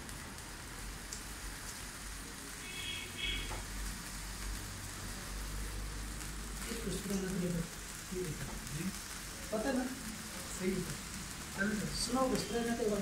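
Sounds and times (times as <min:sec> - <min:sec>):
sparkler candles fizzing: 0:00.0 - 0:13.0.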